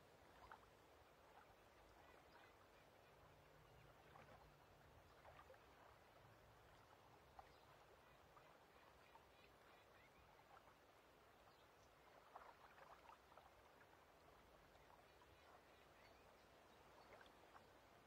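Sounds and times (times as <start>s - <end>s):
soft water wash: 0.0s - 18.0s.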